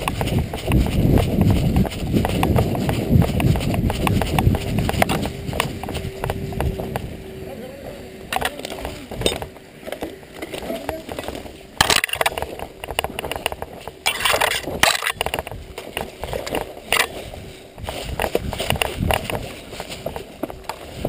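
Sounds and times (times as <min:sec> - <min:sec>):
footsteps on loose dirt: 0:00.0 - 0:07.2, 0:08.3 - 0:21.0
branches cracking and scraping: 0:00.0 - 0:07.3, 0:08.2 - 0:21.0
rustling through dry brush: 0:00.0 - 0:21.0.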